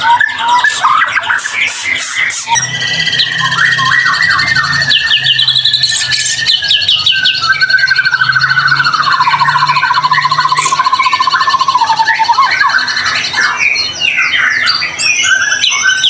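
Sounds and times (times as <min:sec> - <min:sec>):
low rattling bird trill: 0:00.0 - 0:16.0
songbird singing trills: 0:00.0 - 0:16.0.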